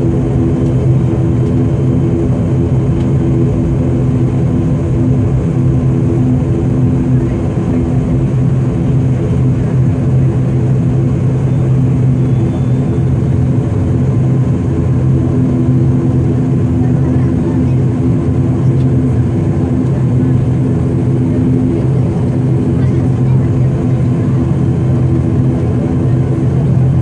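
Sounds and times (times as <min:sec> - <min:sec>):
turboprop engines droning: 0:00.0 - 0:27.0.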